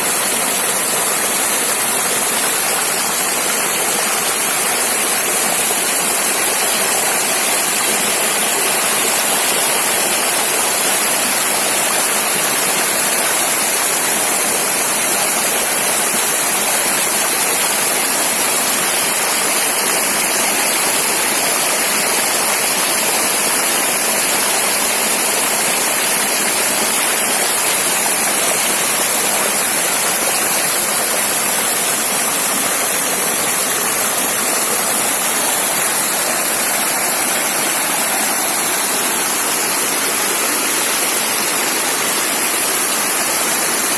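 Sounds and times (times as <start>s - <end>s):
river flowing over stones: 0.0s - 43.9s.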